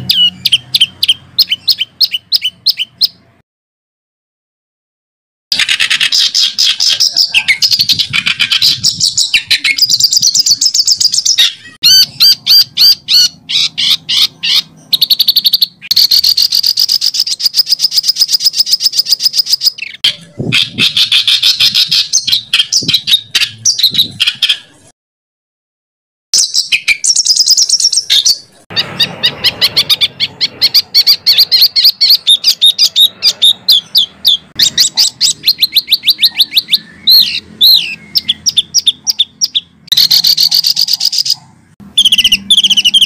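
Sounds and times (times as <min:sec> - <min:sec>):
songbird trills and rasping: 0:05.6 - 0:24.8, 0:26.4 - 0:43.0.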